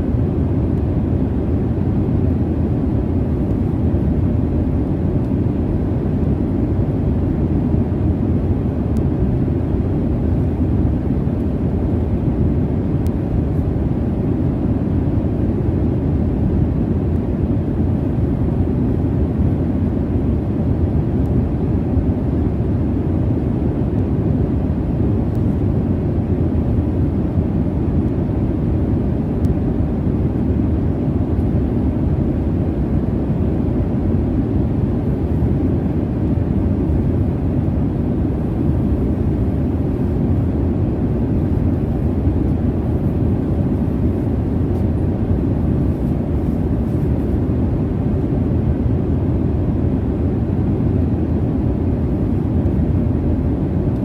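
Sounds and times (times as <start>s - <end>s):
jet cabin engine and airflow rush: 0.0s - 54.0s.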